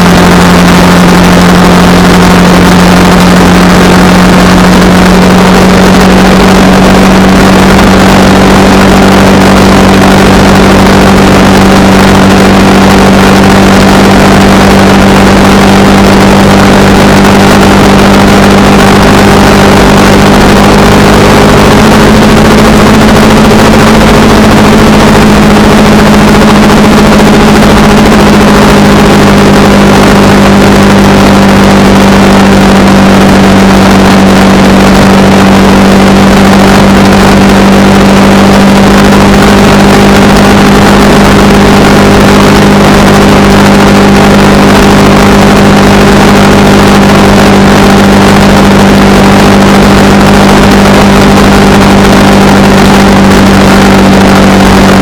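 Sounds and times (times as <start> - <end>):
motorcycle engine cruising: 0.0 - 55.0
rushing noise: 0.0 - 55.0.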